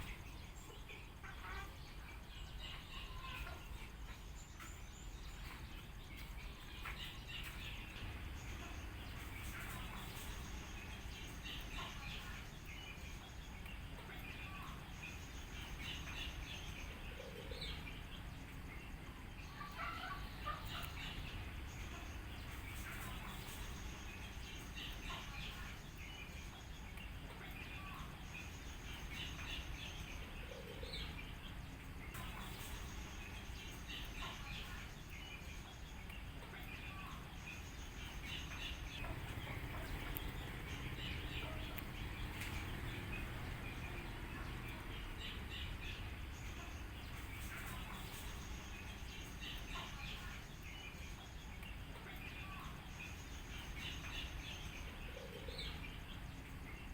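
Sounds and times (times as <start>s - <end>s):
low background noise: 0.0s - 56.9s
wild birds calling: 0.0s - 56.9s.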